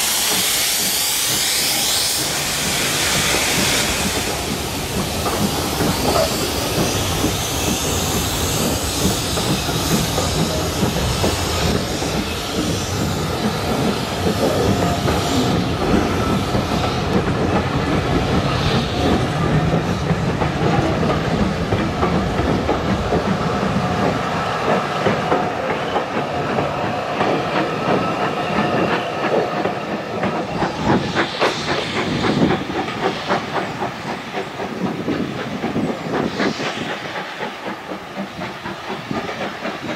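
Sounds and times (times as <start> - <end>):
steady hiss of steam: 0.0 - 39.9
train wheels clacking over rail joints: 0.0 - 39.9.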